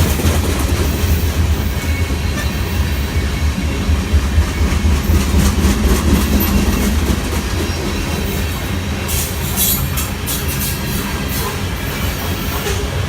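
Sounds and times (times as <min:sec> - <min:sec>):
train rumbling past: 0:00.0 - 0:13.0
train wheels clicking on rails: 0:00.0 - 0:13.0.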